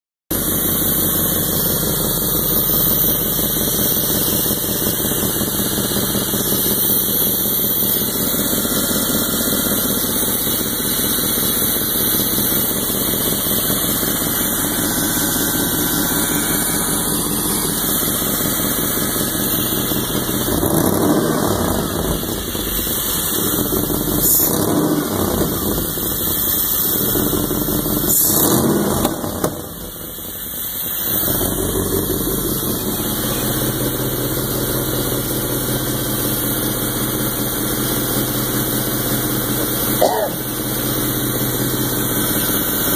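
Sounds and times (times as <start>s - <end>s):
engine running: 0.3s - 42.9s.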